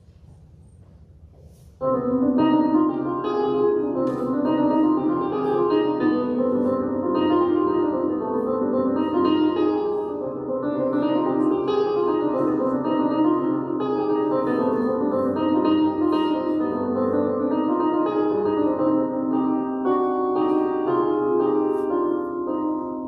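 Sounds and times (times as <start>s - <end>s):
electronic keyboard chords: 1.8s - 23.0s.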